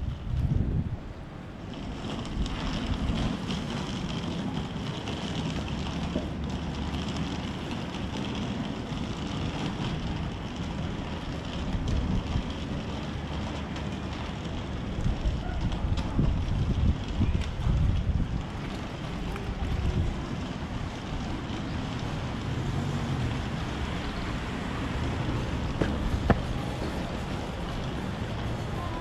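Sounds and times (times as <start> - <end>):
distant traffic hum: 0.0 - 29.0
wind rumbling on microphone: 0.0 - 29.0.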